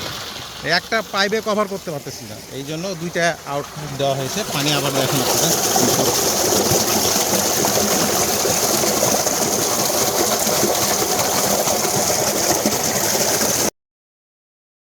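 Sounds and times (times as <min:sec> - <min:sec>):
water gushing from pipes: 0:00.0 - 0:13.7.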